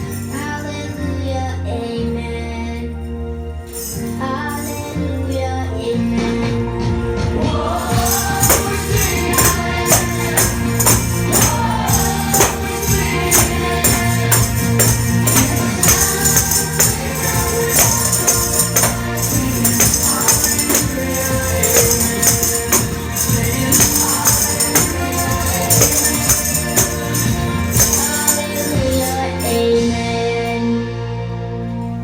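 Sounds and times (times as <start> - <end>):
tambourines jingling: 0.0 - 1.2, 3.6 - 5.4, 7.7 - 30.6
rock song with singing: 0.0 - 31.8.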